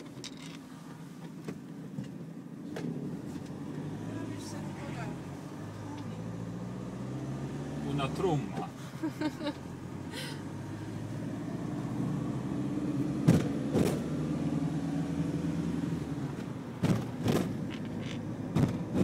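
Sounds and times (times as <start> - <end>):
motorhome engine and road noise: 0.0 - 19.0.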